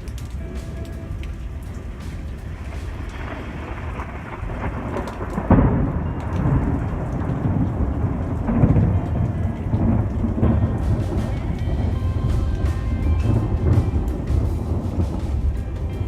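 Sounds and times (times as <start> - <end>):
heavy rain falling: 0.0 - 16.0
thunder clap and rumbling: 0.0 - 16.0.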